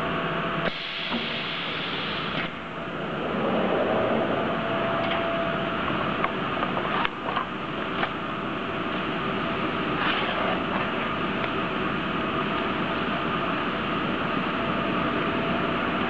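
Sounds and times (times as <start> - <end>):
steady machine noise: 0.0 - 16.0.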